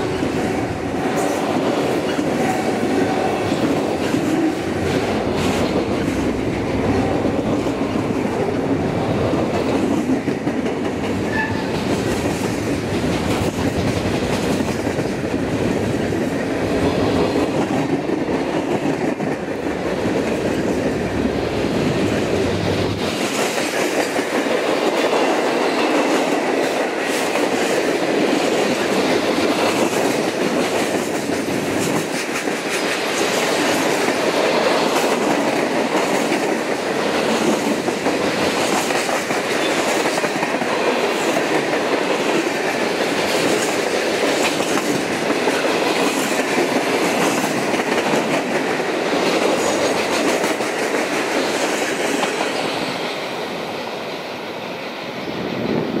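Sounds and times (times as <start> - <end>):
freight cars rumbling on rails: 0.0 - 53.3
train clatter and rattle: 0.0 - 56.0.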